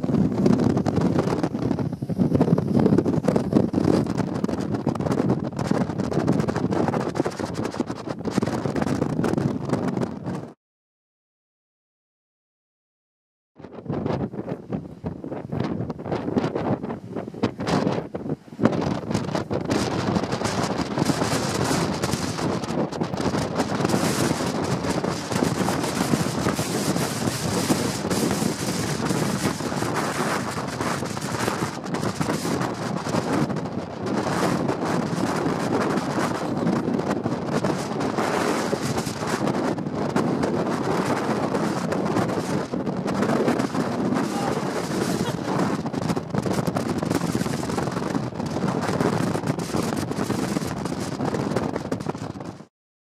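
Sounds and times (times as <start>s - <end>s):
wind buffeting microphone: 0.0s - 10.6s, 13.6s - 52.7s.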